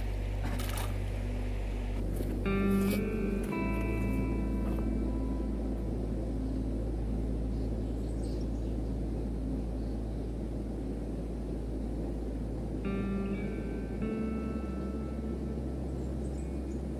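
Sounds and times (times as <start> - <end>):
background music: 0.0 - 16.9
low outdoor rumble and hiss: 0.0 - 16.9.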